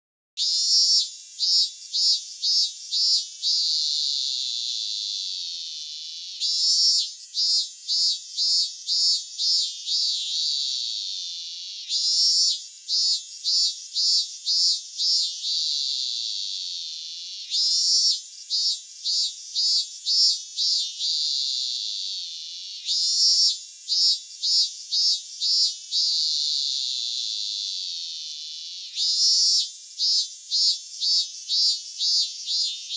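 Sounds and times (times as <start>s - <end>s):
cicada song: 0.4s - 32.9s.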